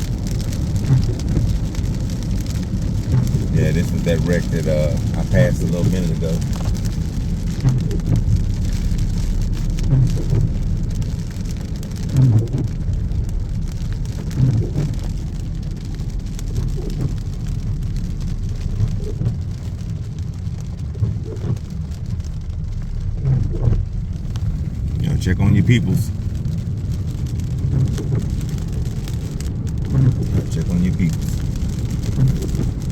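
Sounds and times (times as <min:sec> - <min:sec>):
car road noise rumble: 0:00.0 - 0:32.9
rain-like hiss of wet road: 0:00.0 - 0:32.9.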